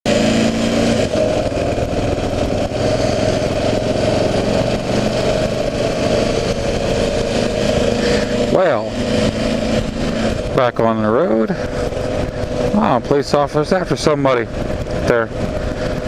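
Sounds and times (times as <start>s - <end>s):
single-cylinder engine running: 0.1s - 16.0s.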